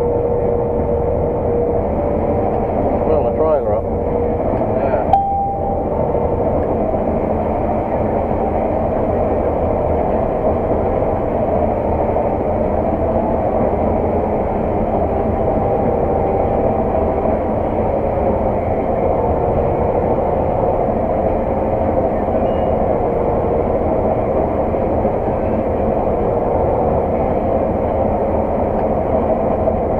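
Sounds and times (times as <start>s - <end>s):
harvesting machine engine drone: 0.0s - 29.9s.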